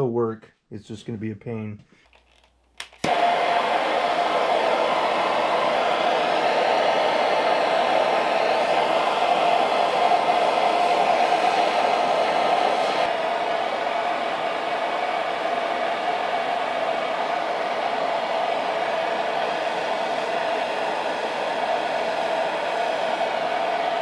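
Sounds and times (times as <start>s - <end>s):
gas torch hissing: 3.0s - 24.0s.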